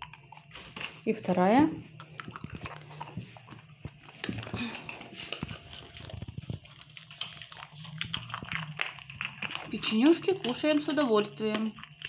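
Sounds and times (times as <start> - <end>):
dog crunching a biscuit: 0.0 - 12.0.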